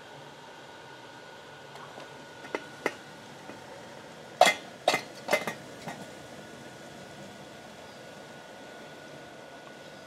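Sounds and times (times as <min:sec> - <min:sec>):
small blower fan humming: 0:00.0 - 0:10.0.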